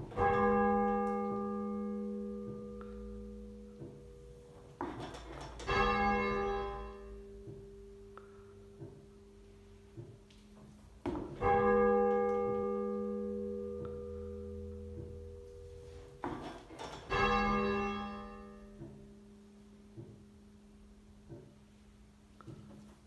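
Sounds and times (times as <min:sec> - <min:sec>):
church bell tolling: 0:00.0 - 0:10.1, 0:11.1 - 0:21.2
steady low hum: 0:00.0 - 0:23.0.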